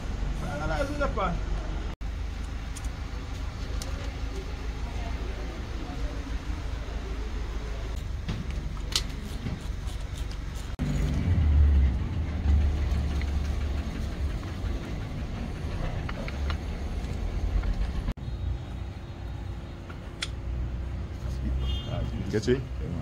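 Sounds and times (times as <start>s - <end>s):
vehicle engine low rumble: 0.0s - 21.5s.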